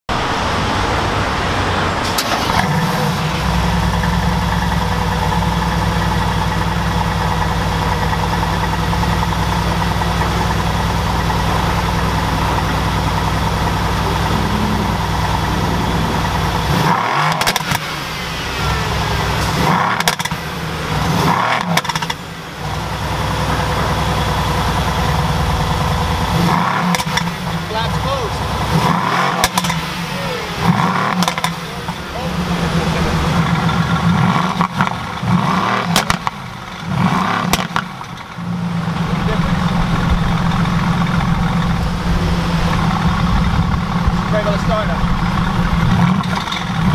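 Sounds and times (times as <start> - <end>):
car engine starting and idling: 0.1 - 46.9
engine revving: 0.1 - 46.9.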